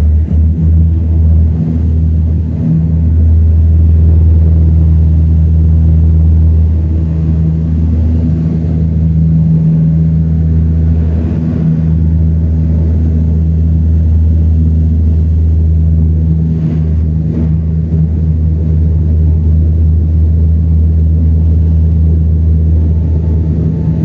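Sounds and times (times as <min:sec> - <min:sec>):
propeller airliner engines droning: 0:00.0 - 0:24.0.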